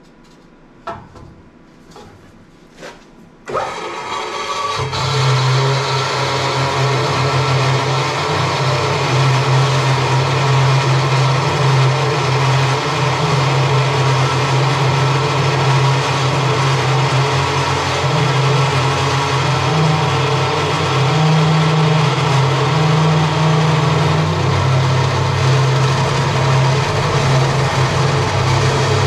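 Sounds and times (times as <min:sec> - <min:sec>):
saw motor hum: 0:03.5 - 0:29.0.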